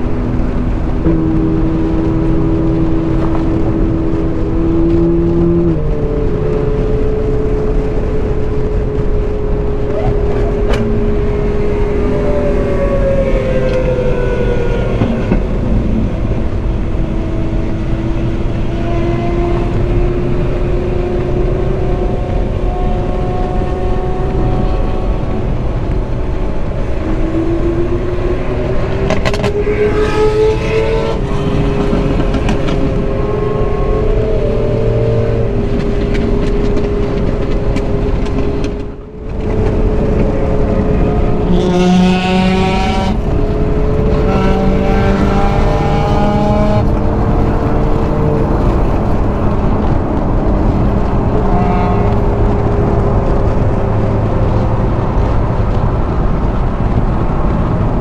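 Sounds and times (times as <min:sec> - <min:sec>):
car engine at highway speed: 0:00.0 - 0:58.0
wind and road noise: 0:00.0 - 0:58.0.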